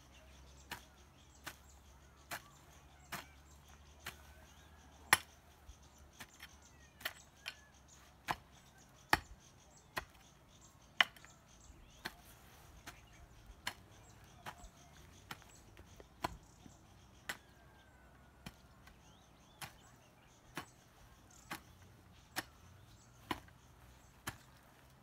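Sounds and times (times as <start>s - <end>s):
hoe chopping into soil: 0.6s - 10.3s, 11.0s - 16.5s, 17.1s - 17.8s, 18.4s - 25.0s.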